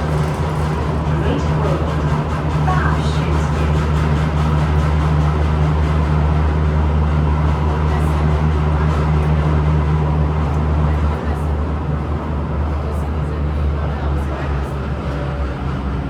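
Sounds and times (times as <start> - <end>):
metro train cabin hum: 0.0 - 16.0.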